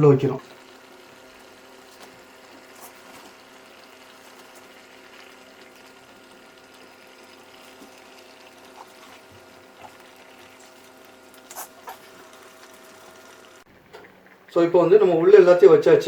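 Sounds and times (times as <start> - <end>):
gravy bubbling in a pan: 0.4 - 14.5.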